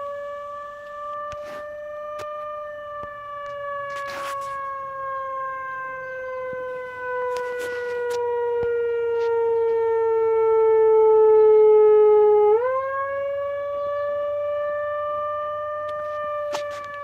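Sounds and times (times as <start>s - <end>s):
electronic siren wailing: 0.0s - 17.0s.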